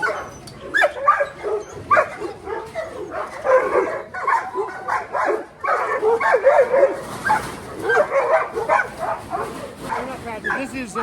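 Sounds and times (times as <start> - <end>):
dogs yelping and whining: 0.0 - 10.8
dogs barking and yipping: 0.0 - 11.0.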